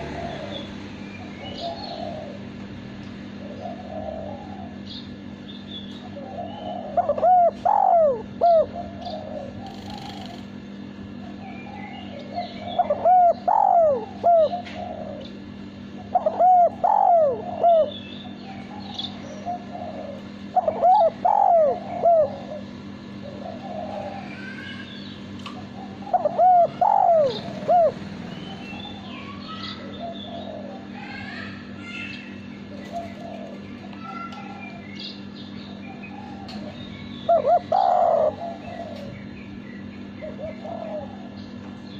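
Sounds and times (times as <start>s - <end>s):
dove cooing: 0.0s - 10.6s, 11.2s - 24.9s, 25.6s - 31.6s, 32.7s - 34.8s, 35.8s - 39.3s, 40.2s - 41.4s
small birds chirping: 0.0s - 41.9s.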